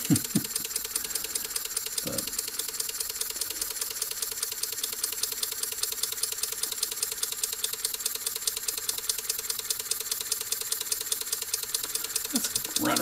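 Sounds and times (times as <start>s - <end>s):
miniature steam engine clicking: 0.0s - 13.0s.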